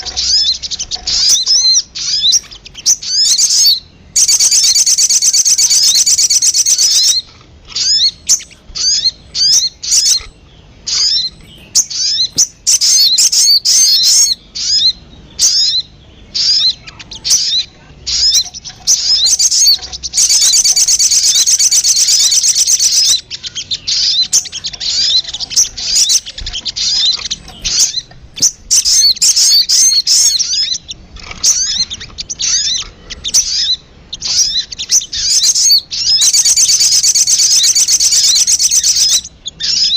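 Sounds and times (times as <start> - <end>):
rapid bird trill: 0.0 - 39.9
sharp high bird chirps: 0.0 - 39.9.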